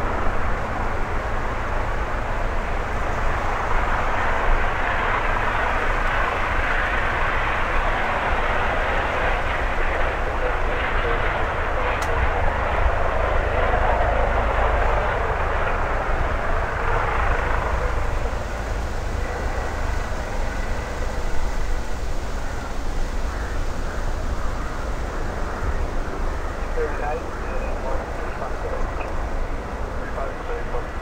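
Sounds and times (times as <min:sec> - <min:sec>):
distant helicopter hovering: 0:00.0 - 0:31.0.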